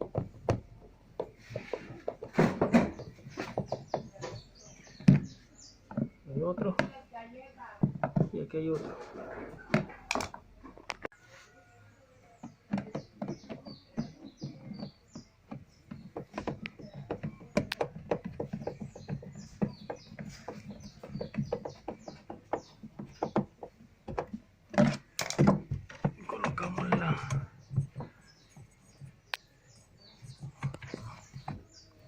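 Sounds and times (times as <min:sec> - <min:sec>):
bird chirping: 0:01.2 - 0:10.1, 0:11.6 - 0:32.0.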